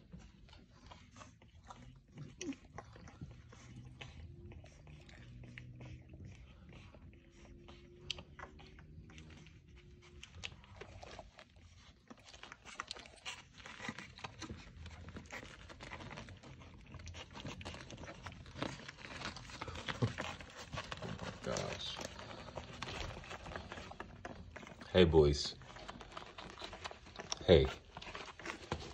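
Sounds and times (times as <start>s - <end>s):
puppies suckling: 0.0s - 28.9s.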